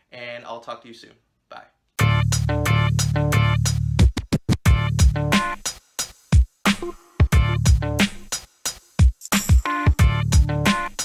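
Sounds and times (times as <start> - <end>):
background music with drum beat: 2.0 - 11.0.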